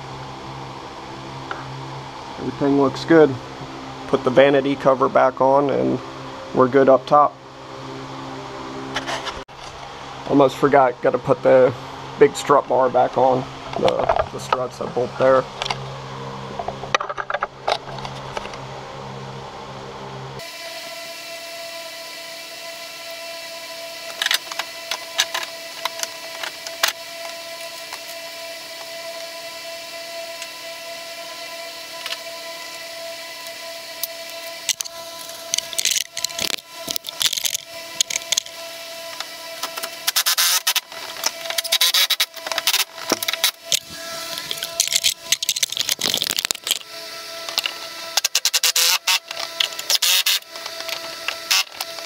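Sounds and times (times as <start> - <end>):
steady hum: 0.0 - 52.0.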